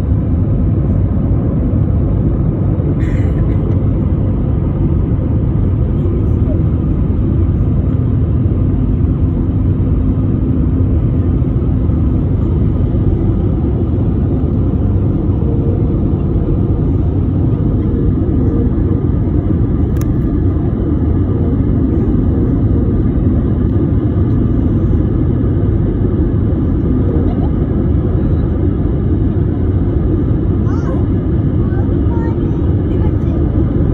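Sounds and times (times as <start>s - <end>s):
airplane engines rumbling: 0.0s - 33.9s.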